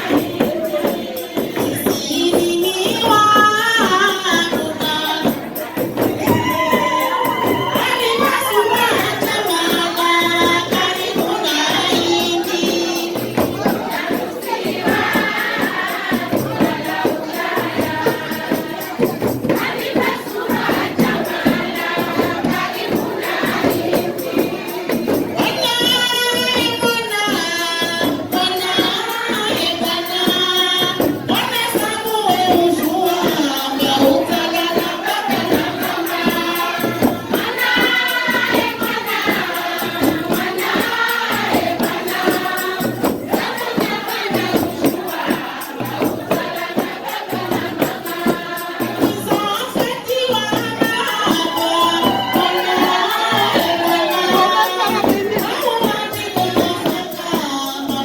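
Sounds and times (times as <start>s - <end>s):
group of voices singing: 0.0s - 58.0s
steady percussion beat: 0.0s - 58.0s.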